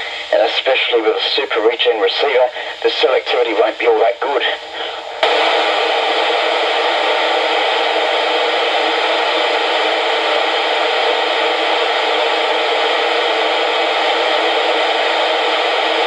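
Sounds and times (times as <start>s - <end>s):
radio receiver static hiss: 0.0s - 16.0s.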